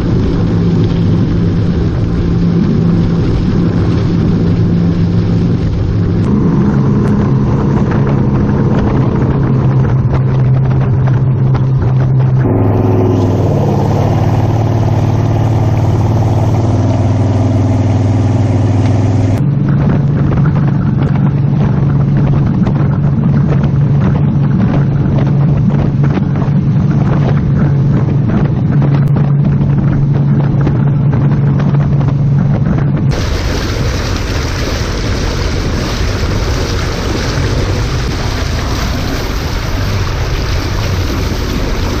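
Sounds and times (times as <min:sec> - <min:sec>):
boat engine drone: 0:00.0 - 0:42.0
rush of wake and wind: 0:00.0 - 0:42.0
rush of water and spray: 0:00.0 - 0:42.0.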